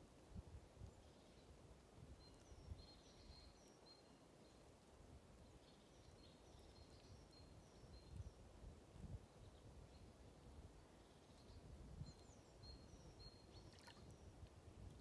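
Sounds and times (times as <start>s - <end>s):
faint distant birdsong: 0.7s - 15.0s.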